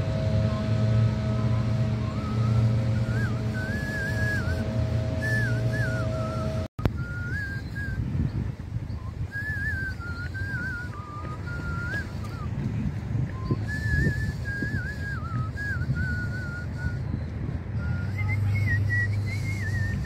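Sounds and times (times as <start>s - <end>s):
low hum: 0.0s - 20.0s
person whistling: 0.6s - 8.3s, 8.9s - 12.6s, 13.3s - 20.0s.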